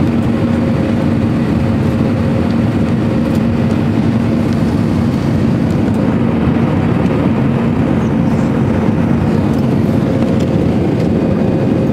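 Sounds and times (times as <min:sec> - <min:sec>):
jet engines rumbling in cabin: 0:00.0 - 0:11.9.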